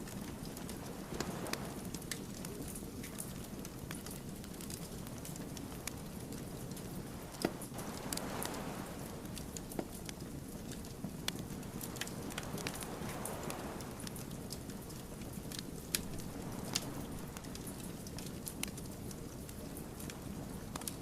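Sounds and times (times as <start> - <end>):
rush of flame: 0.0 - 21.0
wood fire crackling: 0.0 - 21.0.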